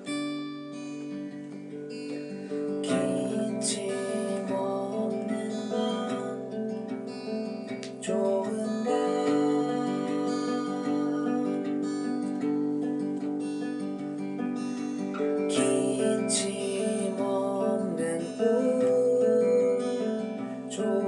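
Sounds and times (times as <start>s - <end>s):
acoustic guitar strummed and picked: 0.0s - 21.0s.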